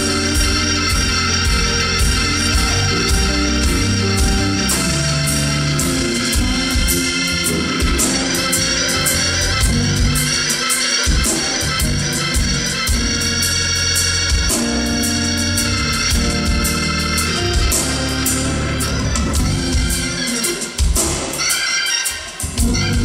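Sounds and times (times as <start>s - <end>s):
bass guitar: 0.0s - 21.3s, 22.4s - 23.0s
drum beat with cymbals: 0.0s - 23.0s
organ chords: 0.0s - 23.0s.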